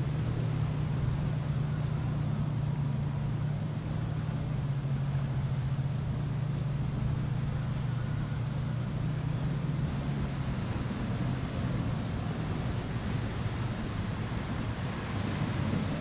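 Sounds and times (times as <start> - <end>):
boat engines droning: 0.0 - 16.0
wind and water noise: 0.0 - 16.0.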